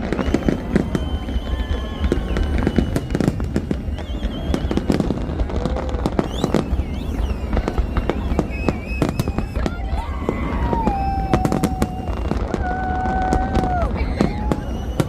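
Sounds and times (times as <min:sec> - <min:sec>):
fireworks bangs and crackles: 0:00.0 - 0:15.0
wavering whistles: 0:00.0 - 0:15.0.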